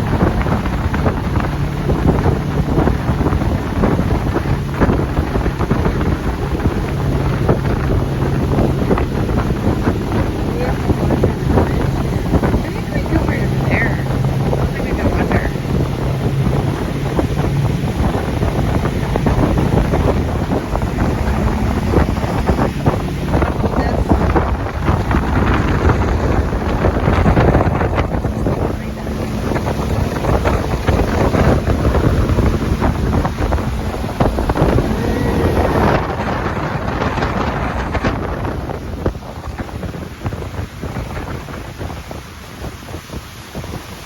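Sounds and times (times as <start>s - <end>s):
boat engine drone: 0.0s - 44.0s
water rushing: 0.0s - 44.0s
wind buffeting microphone: 0.0s - 44.0s.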